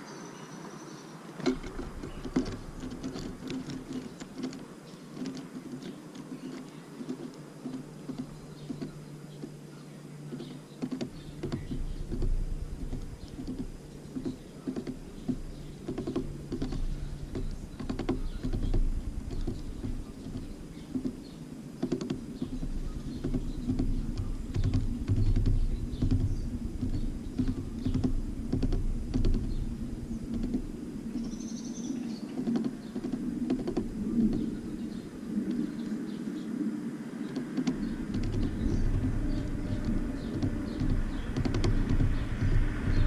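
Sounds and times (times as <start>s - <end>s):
birds pecking at seed feeder: 0.0s - 43.0s.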